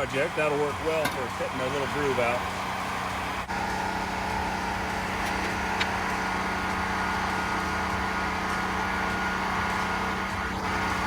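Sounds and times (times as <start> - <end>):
shop motor hum: 0.0 - 11.0.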